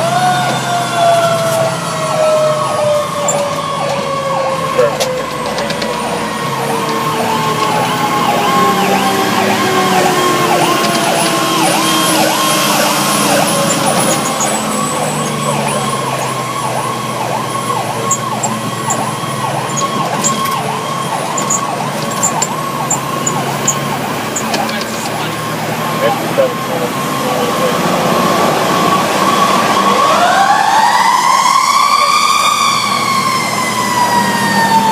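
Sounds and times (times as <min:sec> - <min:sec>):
low siren tone: 0:00.0 - 0:34.9
siren yelping: 0:00.0 - 0:34.9
truck engine running: 0:00.0 - 0:34.9.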